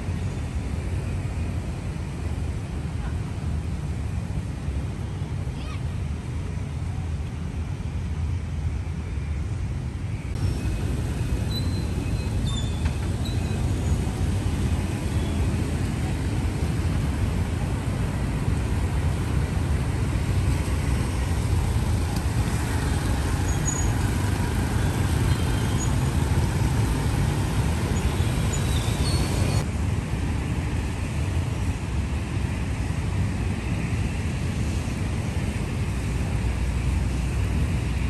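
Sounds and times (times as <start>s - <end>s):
outdoor noise: 0.0s - 38.0s
road traffic rumble: 0.0s - 38.0s.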